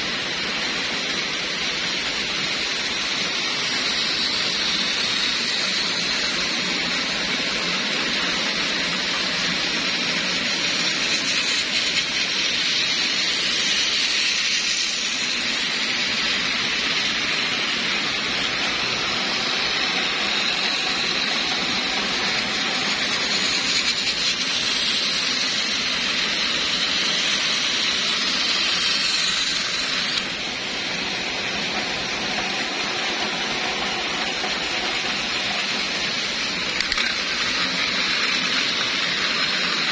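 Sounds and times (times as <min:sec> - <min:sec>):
high motor whine: 0:00.0 - 0:39.9
toy train motors whirring: 0:00.0 - 0:39.9
wheels rattling on track: 0:00.0 - 0:39.9.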